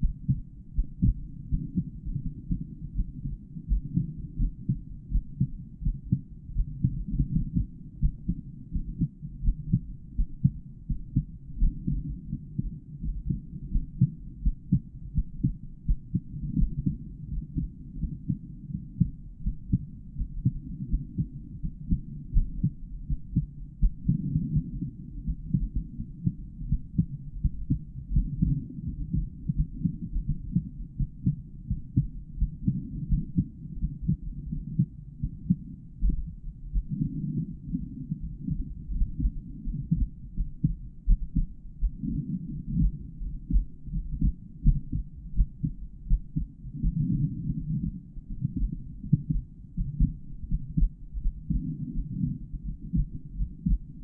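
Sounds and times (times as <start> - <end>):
muffled heartbeat: 0.0 - 54.0.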